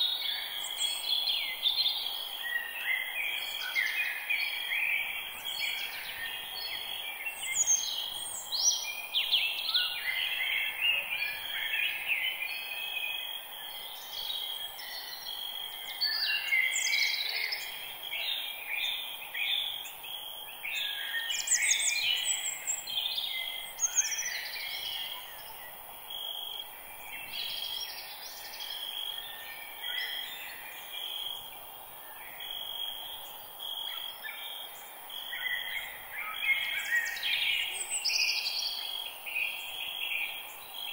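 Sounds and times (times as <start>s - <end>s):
songbirds singing and chirping: 0.0s - 40.9s
steady background hiss: 0.0s - 40.9s.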